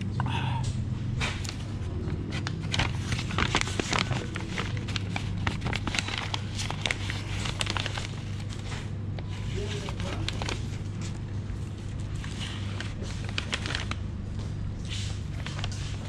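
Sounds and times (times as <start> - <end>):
steady low hum: 0.0 - 16.0
paper bag crinkling and rustling: 1.2 - 14.1, 14.8 - 16.0.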